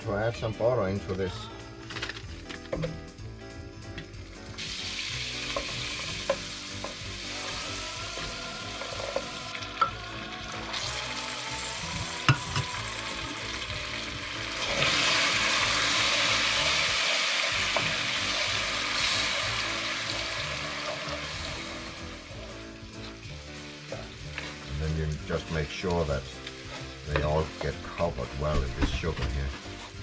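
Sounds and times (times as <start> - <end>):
butter sizzling in caramel: 4.2 - 30.0.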